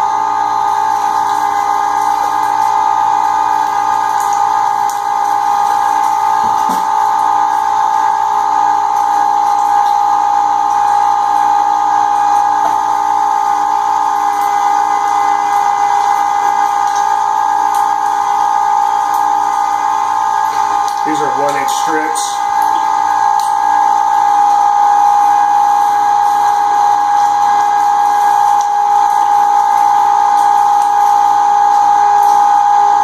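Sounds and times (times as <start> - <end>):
electric meat grinder whining: 0.0 - 33.0.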